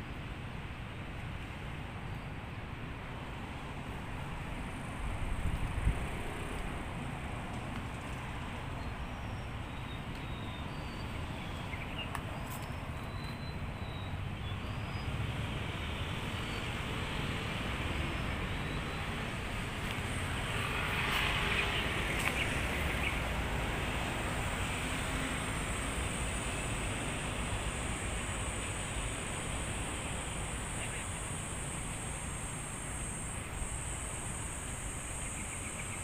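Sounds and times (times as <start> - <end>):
road and wind noise: 0.0 - 36.0
moving vehicle rumble: 4.7 - 36.0.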